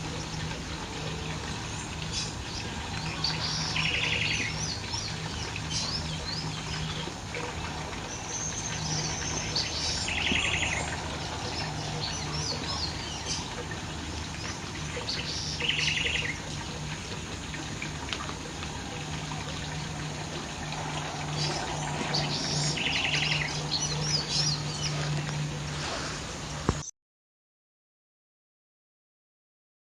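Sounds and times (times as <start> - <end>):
low hum: 0.0 - 26.9
wild birds singing and chirping: 0.0 - 26.9.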